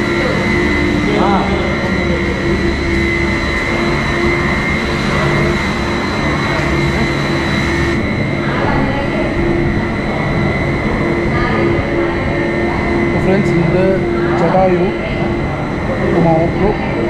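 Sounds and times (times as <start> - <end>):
high whine: 0.0 - 17.0
mechanical hum: 0.0 - 17.0.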